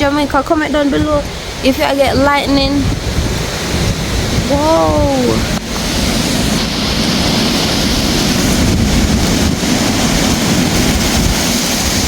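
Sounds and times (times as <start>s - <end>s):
hurricane wind rushing: 0.0s - 12.0s
rain hiss: 0.0s - 12.0s
wind buffeting microphone: 0.0s - 12.0s.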